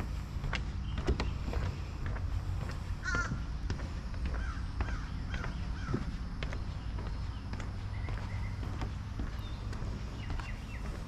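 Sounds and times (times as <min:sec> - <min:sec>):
bird calling: 0:00.0 - 0:11.0
footsteps on wooden boards: 0:00.0 - 0:11.0.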